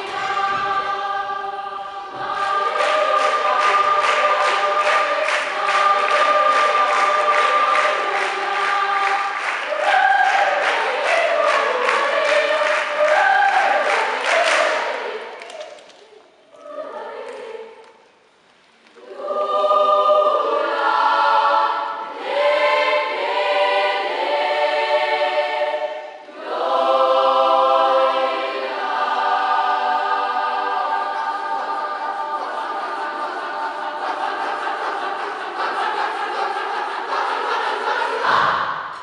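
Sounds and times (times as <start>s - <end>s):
children's choir singing: 0.0s - 39.0s.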